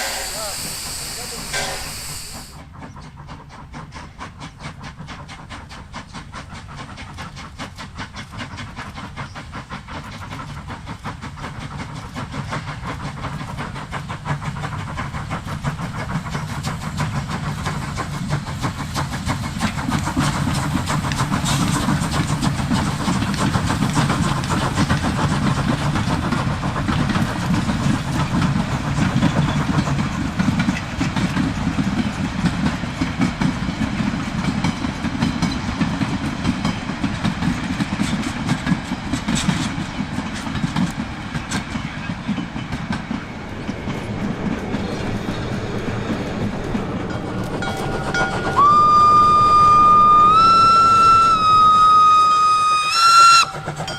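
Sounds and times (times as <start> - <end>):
steam train clattering: 0.0 - 53.9.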